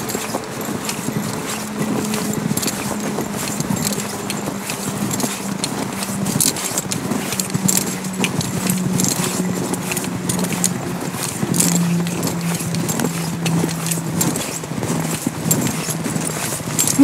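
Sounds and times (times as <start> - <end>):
footsteps crunching in snow: 0.0 - 17.0
steady low hum: 0.0 - 17.0.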